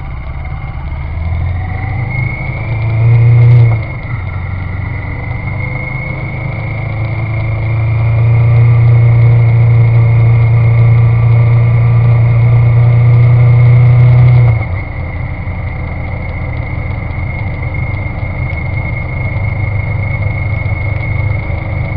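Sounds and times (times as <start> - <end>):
engine running: 0.0 - 21.9
high-pitched whine: 0.0 - 21.9.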